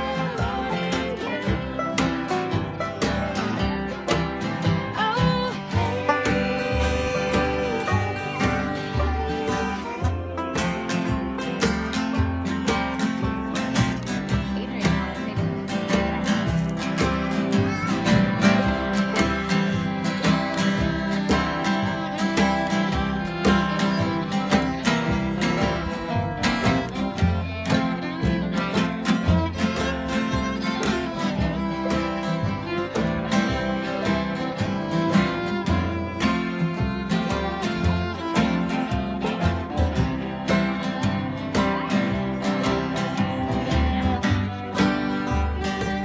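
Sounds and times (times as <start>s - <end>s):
fiddle playing: 0.0s - 46.0s
strummed acoustic guitars: 0.0s - 46.0s
upright bass: 0.0s - 46.0s.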